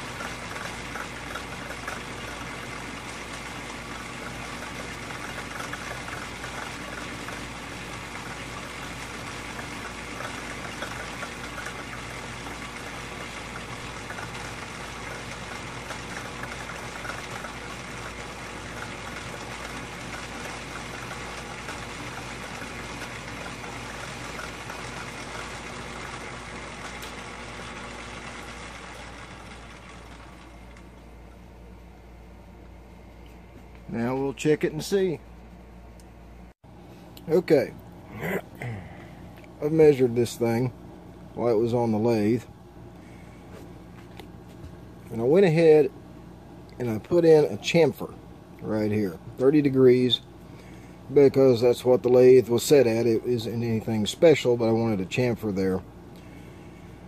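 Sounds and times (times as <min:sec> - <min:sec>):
lathe motor and gear whine: 0:00.0 - 0:35.6, 0:37.3 - 0:57.0.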